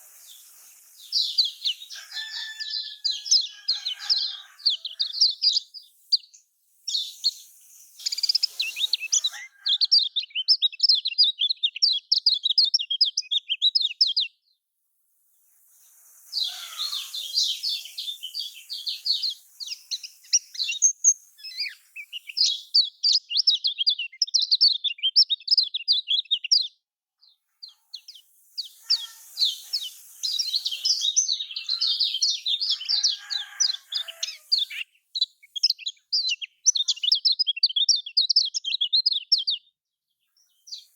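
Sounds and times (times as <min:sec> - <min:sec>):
bird chattering song: 0:00.0 - 0:14.4, 0:16.3 - 0:26.8, 0:27.6 - 0:39.7.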